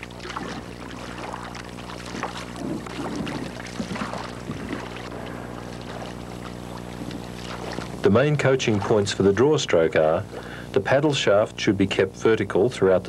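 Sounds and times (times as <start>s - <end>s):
paddle splashing in water: 0.0s - 10.6s
steady low hum: 0.0s - 13.0s.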